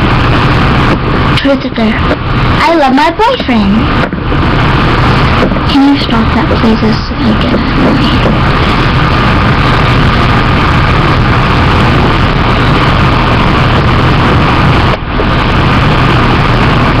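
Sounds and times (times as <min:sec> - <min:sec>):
loud steady rumbling: 0:00.0 - 0:17.0.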